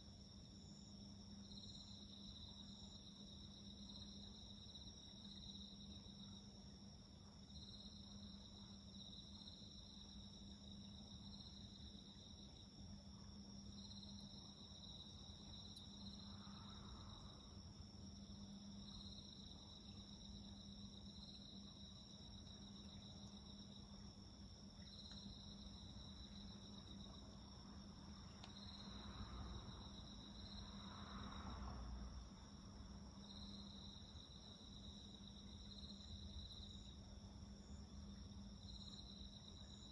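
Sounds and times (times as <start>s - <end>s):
crickets trilling: 0.2s - 39.9s.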